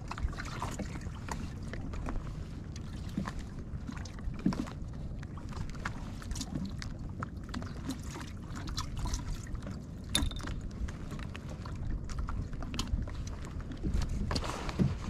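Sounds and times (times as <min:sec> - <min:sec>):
waves lapping against kayak hull: 0:00.0 - 0:15.0.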